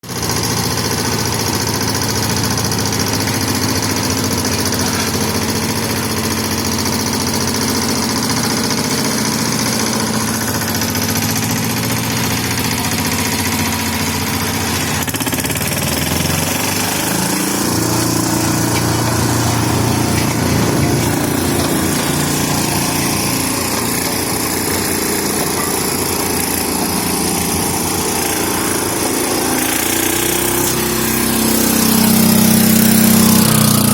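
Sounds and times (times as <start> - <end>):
road roller engine running: 0.0 - 33.9.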